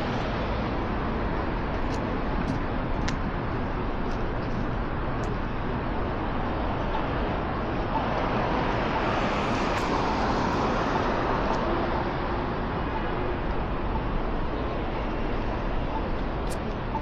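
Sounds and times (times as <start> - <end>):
passing cars road noise: 0.0 - 17.0.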